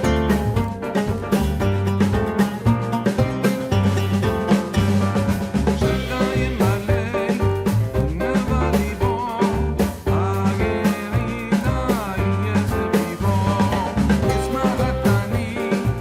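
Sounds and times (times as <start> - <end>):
music with drums and bass: 0.0 - 16.0.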